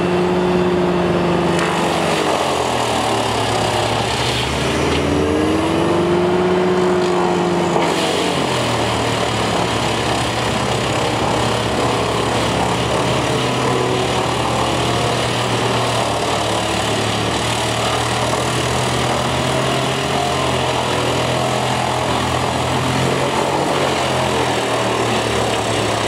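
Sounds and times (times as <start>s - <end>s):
drum chipper engine drone: 0.0s - 26.0s.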